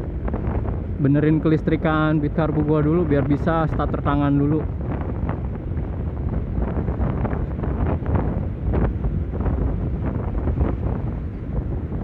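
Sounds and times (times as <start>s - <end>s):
scooter engine and road rumble: 0.0s - 12.0s
wind buffeting microphone: 0.0s - 12.0s.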